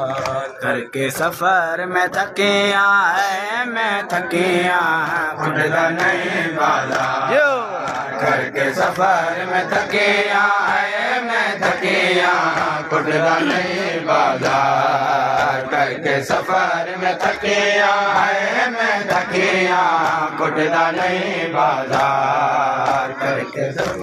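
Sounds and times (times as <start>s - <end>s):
men chanting a lament in unison: 0.0s - 24.0s.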